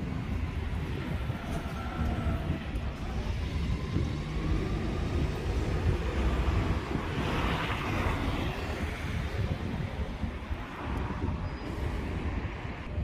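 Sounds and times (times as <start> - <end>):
bus engines and road traffic: 0.0 - 13.0.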